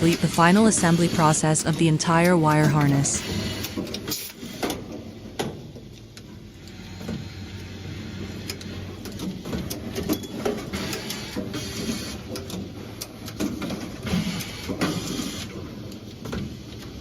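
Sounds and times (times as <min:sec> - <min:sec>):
machine clicks and clacks: 0:00.0 - 0:17.0.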